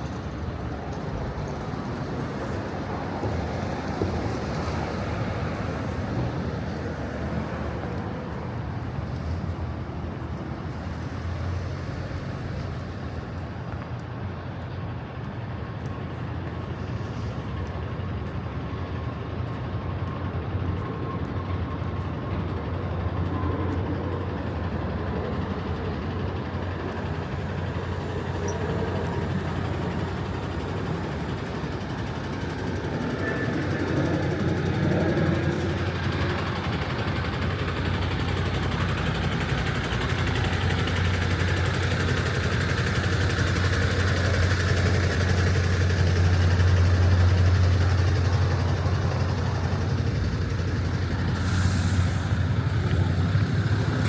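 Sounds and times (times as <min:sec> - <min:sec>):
traffic engines rumbling: 0:00.0 - 0:54.0.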